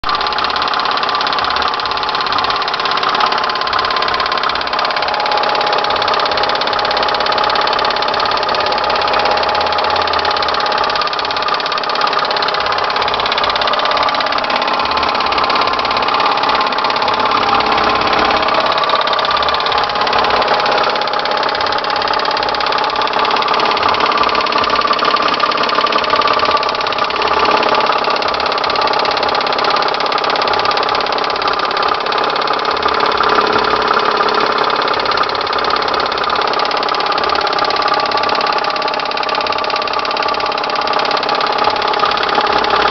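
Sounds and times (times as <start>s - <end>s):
car engine running: 0.0s - 42.9s
engine knocking: 0.0s - 42.9s.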